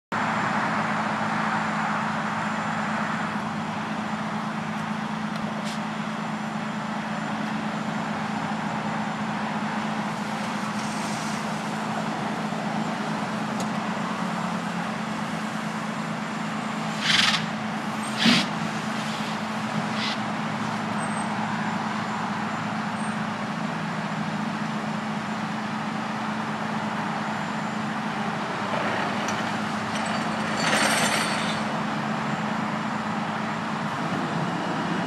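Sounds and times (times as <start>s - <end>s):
truck engine humming: 0.2s - 35.0s.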